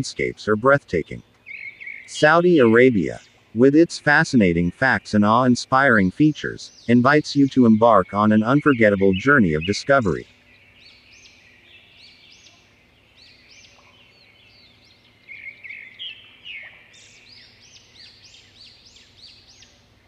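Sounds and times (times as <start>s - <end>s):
faint background noise: 0.0s - 20.0s
small birds chirping: 0.0s - 20.0s.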